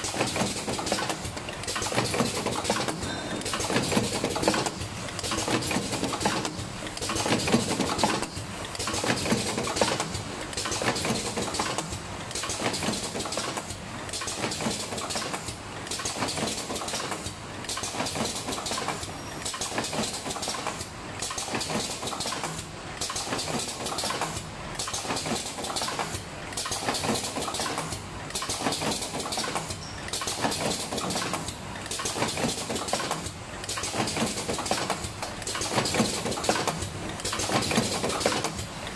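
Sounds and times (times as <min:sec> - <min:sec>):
cartoning machine clatter: 0:00.0 - 0:38.9.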